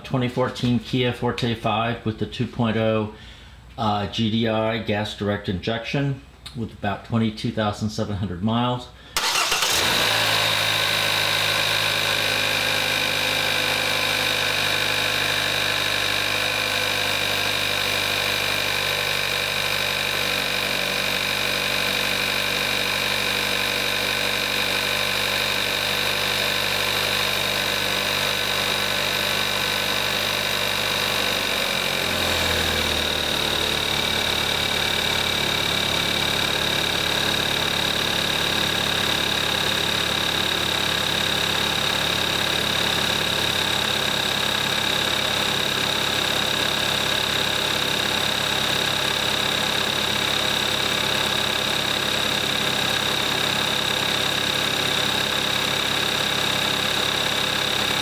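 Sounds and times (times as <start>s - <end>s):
car engine starting and idling: 9.1s - 58.0s.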